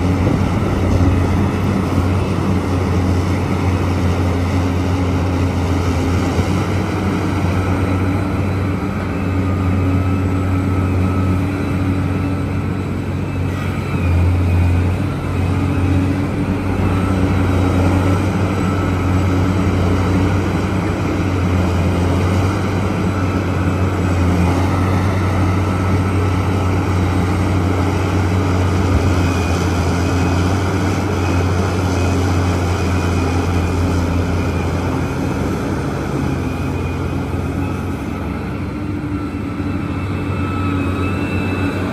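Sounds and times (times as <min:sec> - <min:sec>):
excavator engine droning: 0:00.0 - 0:41.9.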